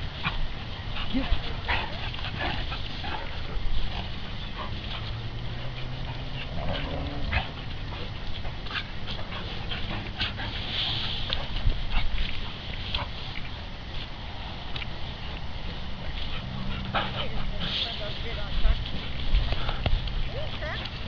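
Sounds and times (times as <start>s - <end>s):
dogs scuffling: 0.0s - 21.0s.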